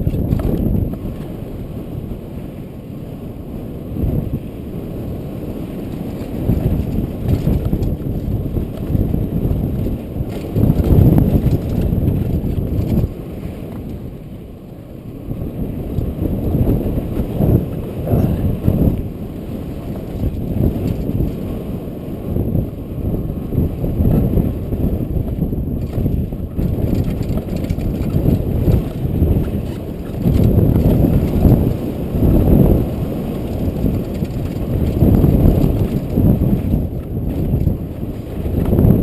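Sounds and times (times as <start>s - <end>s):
rumble of riding over snow: 0.0s - 39.0s
wind buffeting microphone: 0.0s - 39.0s.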